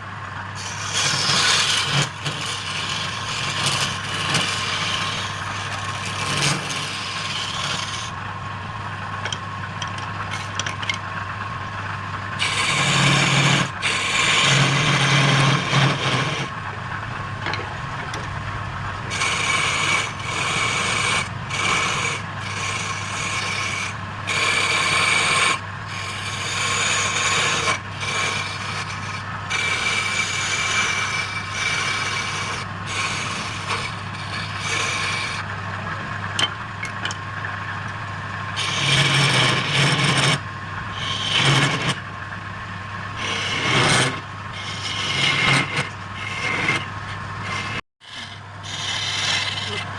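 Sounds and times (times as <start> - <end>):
tool scraping spinning wood: 0.0 - 49.9
wood lathe humming: 0.0 - 49.9.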